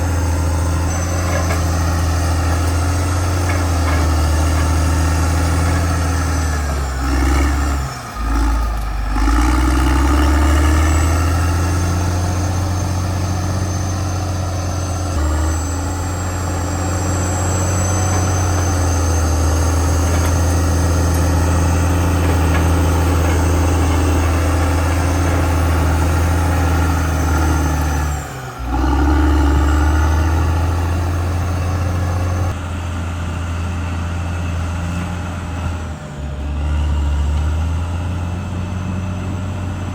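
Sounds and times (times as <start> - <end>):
bulldozer diesel engine hum: 0.0 - 39.9.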